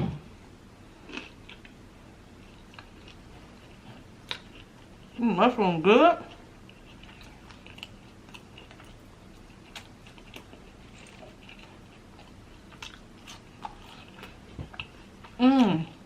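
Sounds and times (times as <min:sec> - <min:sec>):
person chewing food: 0:01.0 - 0:05.2, 0:06.3 - 0:16.0.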